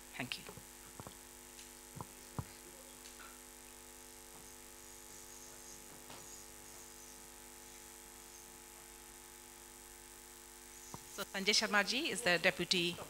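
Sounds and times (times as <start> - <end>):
faint drone of held tones: 0.8 - 12.9.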